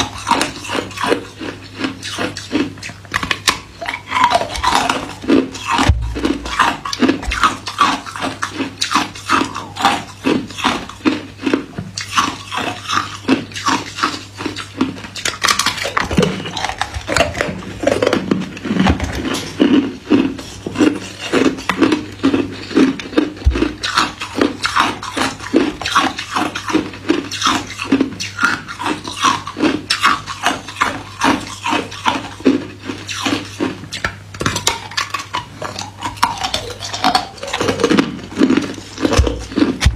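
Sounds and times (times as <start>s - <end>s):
ice cubes being chewed: 0.0s - 39.9s.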